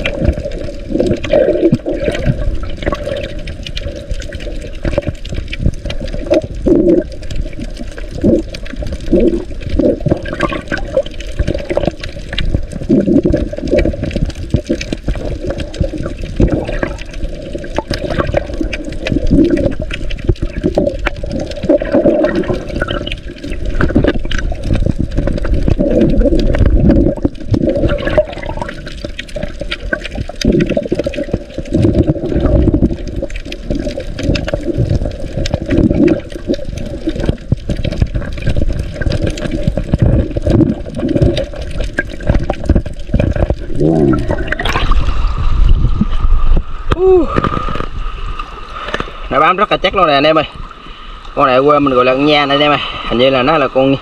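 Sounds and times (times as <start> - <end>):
underwater rushing and bubbling: 0.0 - 54.0.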